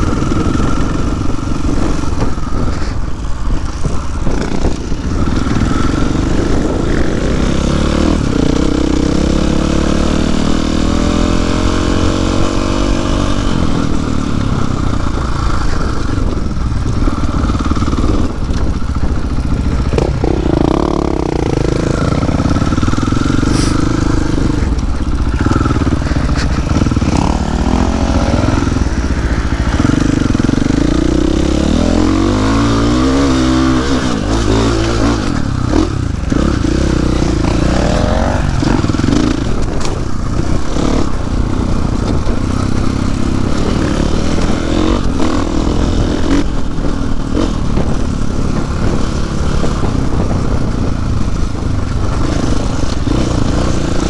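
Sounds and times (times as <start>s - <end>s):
dirt bike engine revving: 0.0s - 54.0s
wind across microphone: 0.0s - 54.0s.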